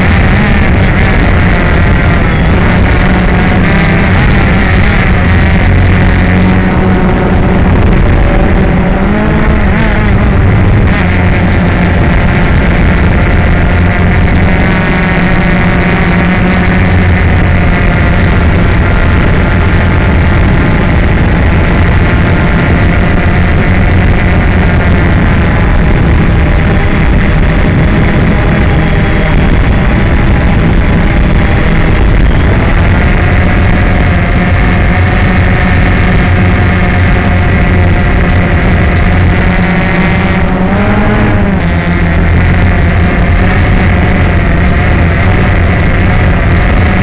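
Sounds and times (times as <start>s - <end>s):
drone propellers buzzing: 0.0s - 47.0s.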